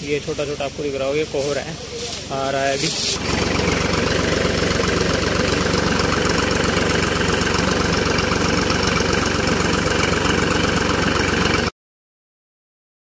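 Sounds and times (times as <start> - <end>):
tractor engine running: 0.0 - 11.7
sprayer hissing: 0.2 - 11.7.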